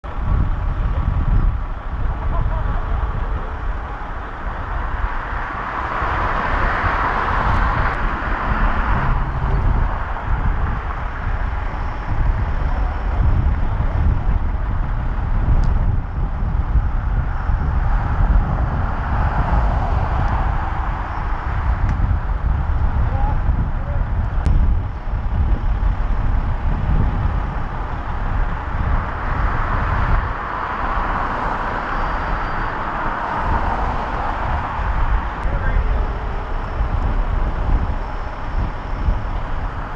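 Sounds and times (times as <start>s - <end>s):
rushing noise: 0.0s - 39.9s
vehicle engine running: 0.0s - 39.9s.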